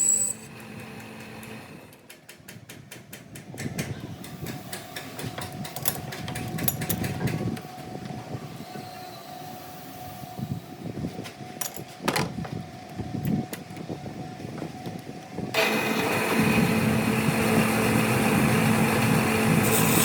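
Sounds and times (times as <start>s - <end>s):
machinery whine: 0.0s - 2.0s, 5.8s - 20.0s.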